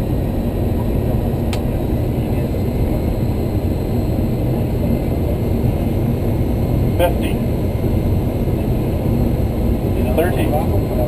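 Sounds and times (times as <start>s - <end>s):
cockpit engine and airflow rumble: 0.0s - 11.0s.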